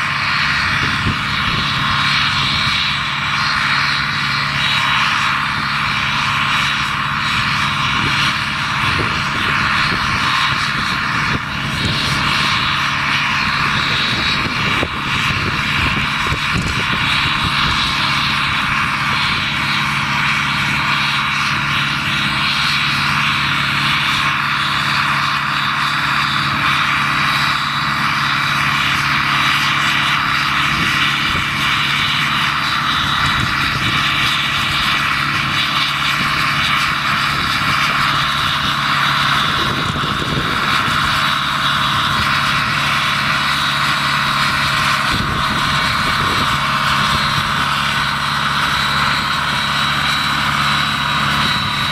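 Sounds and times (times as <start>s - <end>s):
diesel locomotive engine running: 0.0s - 51.9s.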